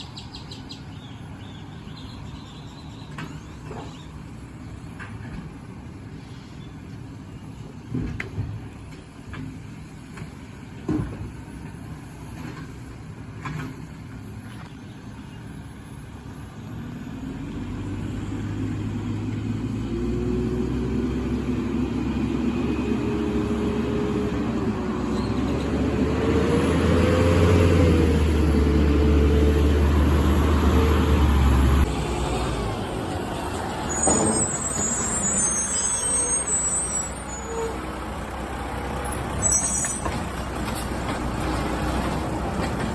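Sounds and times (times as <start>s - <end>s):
garbage truck diesel engine: 0.0s - 42.9s.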